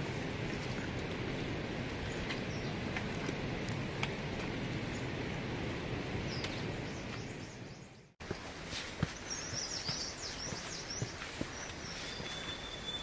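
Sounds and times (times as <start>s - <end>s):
footsteps on forest trail: 0.0s - 7.6s, 8.2s - 13.0s.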